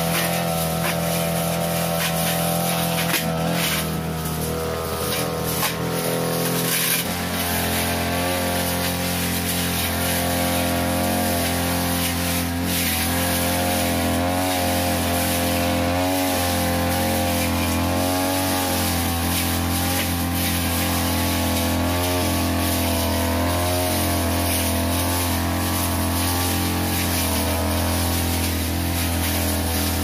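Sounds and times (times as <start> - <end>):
blade slashing through grass: 0.0 - 30.0
brush cutter engine running: 0.0 - 30.0.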